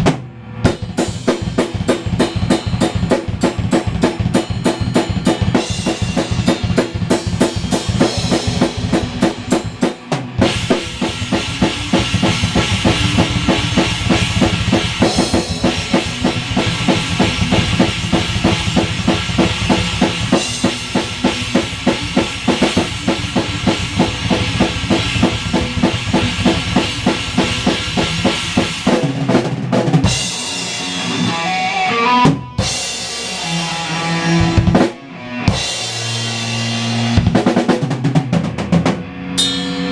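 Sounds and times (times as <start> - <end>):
drum kit playing metal beat: 0.0 - 39.9.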